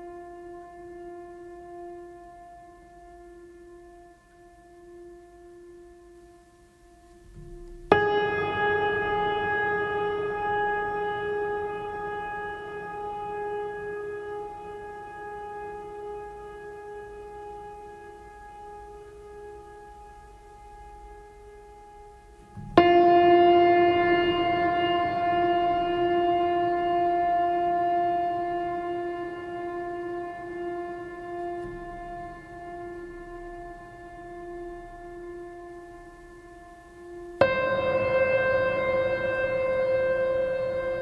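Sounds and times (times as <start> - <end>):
long held instrumental note: 0.0 - 41.0.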